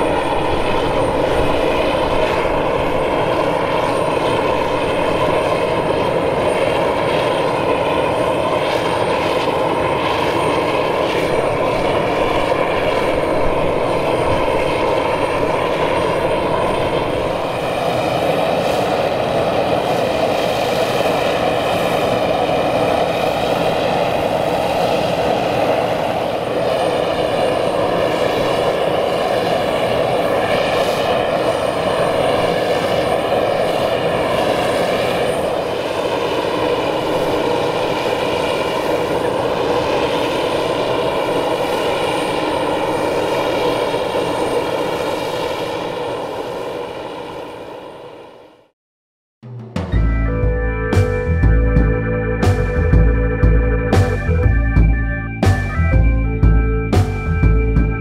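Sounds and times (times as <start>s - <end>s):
turboprop engines droning: 0.0s - 48.4s, 49.6s - 58.0s.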